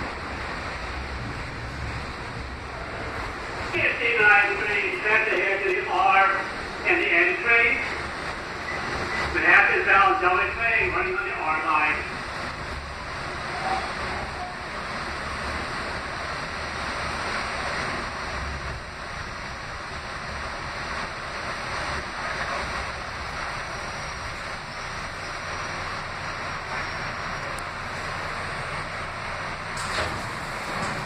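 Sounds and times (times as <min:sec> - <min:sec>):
subway car rumble and hiss: 0:00.0 - 0:31.0.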